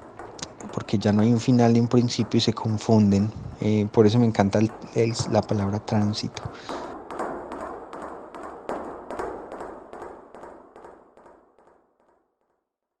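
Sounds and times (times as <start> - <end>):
rhythmic tapping: 0.0 - 11.2.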